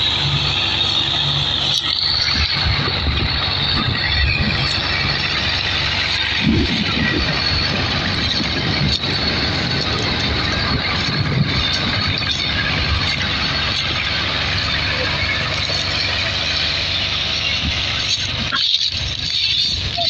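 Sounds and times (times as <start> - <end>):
tractor engines running under load: 0.0 - 20.0.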